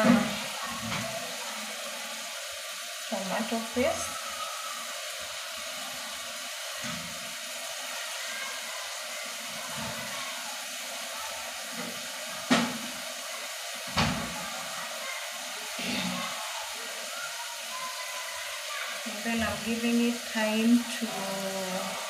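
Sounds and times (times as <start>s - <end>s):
tomatoes sizzling in a pot: 0.0s - 22.0s.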